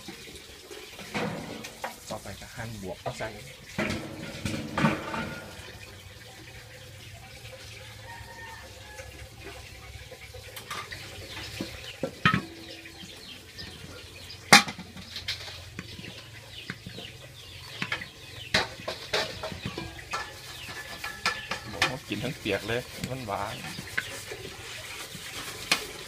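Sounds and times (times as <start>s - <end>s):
chickens clucking: 3.2s - 26.0s.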